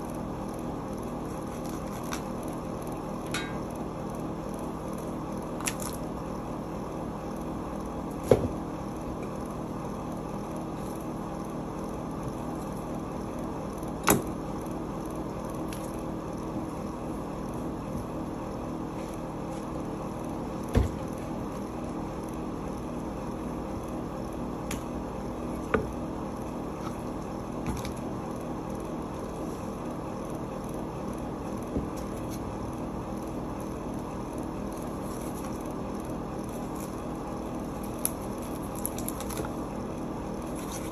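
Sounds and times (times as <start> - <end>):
background hum: 0.0 - 40.9.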